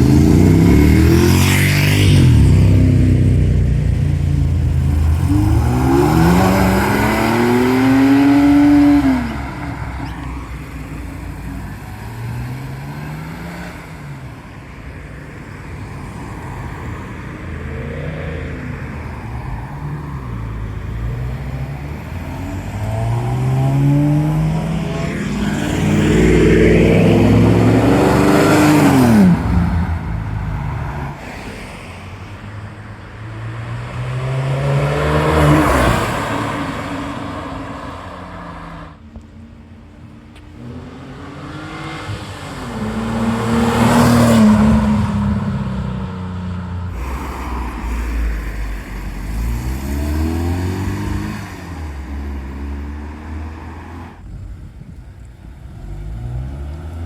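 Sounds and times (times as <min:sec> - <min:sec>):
cars revving and driving past: 0:00.0 - 0:57.0.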